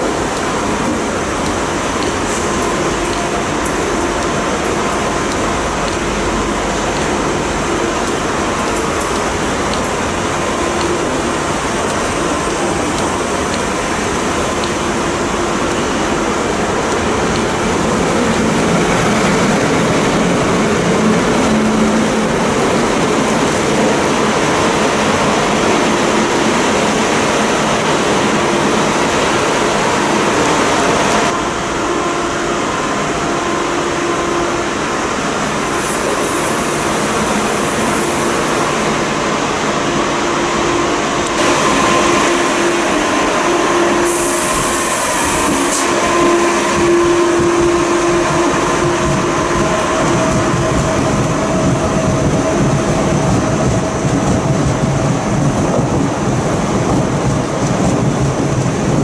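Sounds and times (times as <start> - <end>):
electric trains rumbling and humming: 0.0 - 59.0
riding aboard a train: 0.0 - 59.0.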